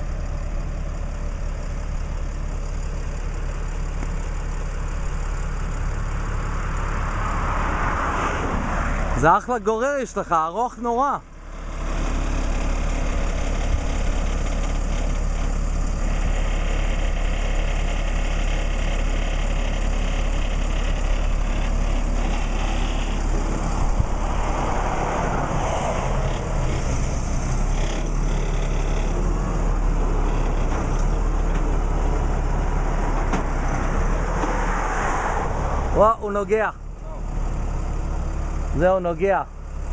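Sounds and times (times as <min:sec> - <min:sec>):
tow truck engine droning: 0:00.0 - 0:39.9.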